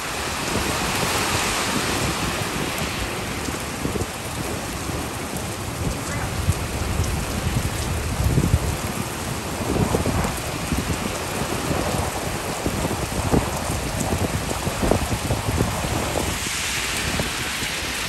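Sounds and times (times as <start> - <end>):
rain pouring: 0.0 - 18.0.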